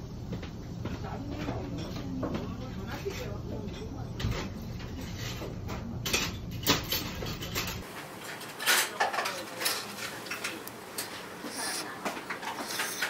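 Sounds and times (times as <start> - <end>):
restaurant background noise: 0.0 - 13.0.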